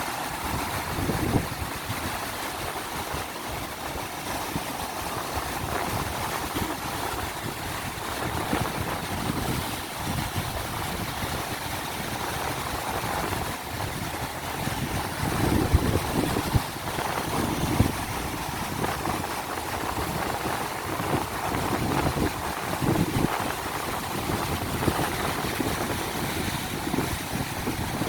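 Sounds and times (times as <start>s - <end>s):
ocean surf washing in: 0.0s - 28.0s
wind gusting on microphone: 0.0s - 28.0s.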